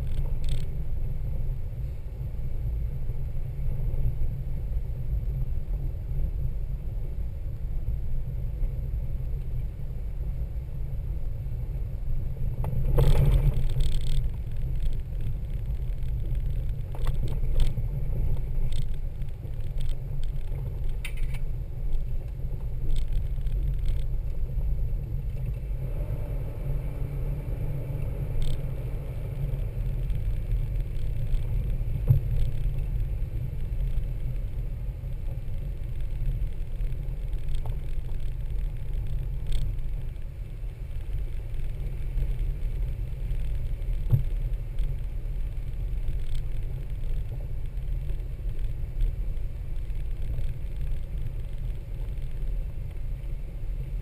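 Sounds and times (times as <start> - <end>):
vehicle engine low rumble: 0.0 - 54.0.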